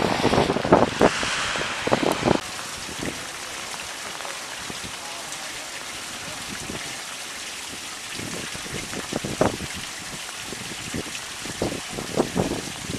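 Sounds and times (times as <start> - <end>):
rain hissing: 0.0 - 12.9
wind buffeting microphone: 0.0 - 12.9
water trickling into drain: 2.4 - 12.9.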